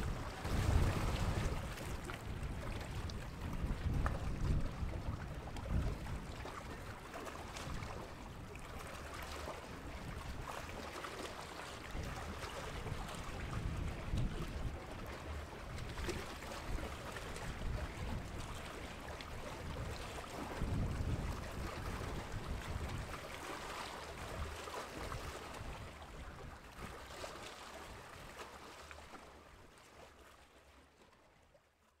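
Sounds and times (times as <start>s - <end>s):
wind on microphone: 0.0s - 10.9s, 11.8s - 27.0s
small waves lapping: 0.0s - 32.0s.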